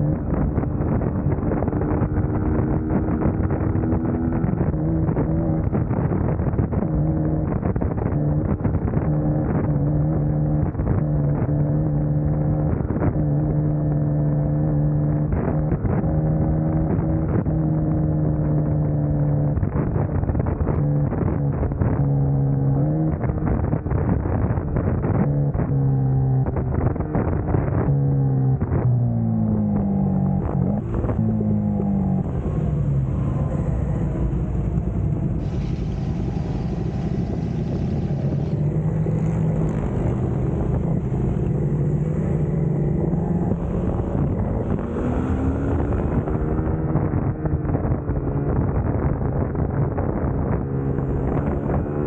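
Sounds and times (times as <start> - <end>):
wind buffeting microphone: 0.0 - 13.8, 22.9 - 52.0
motorcycle engine cruising: 0.0 - 52.0.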